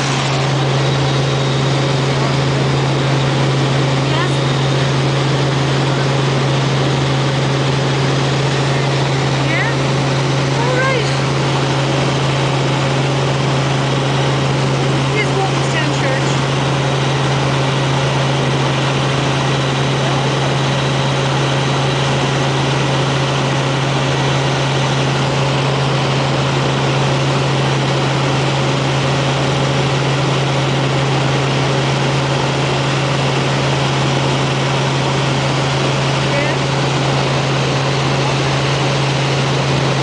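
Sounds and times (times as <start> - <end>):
helicopter engine and rotors: 0.0 - 40.0.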